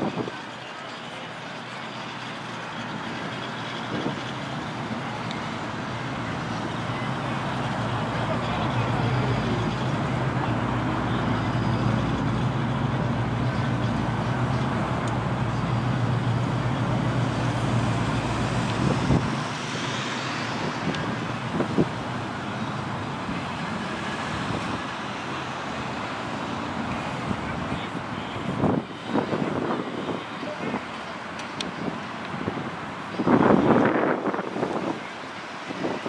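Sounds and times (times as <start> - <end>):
cars driving past: 0.0 - 36.0.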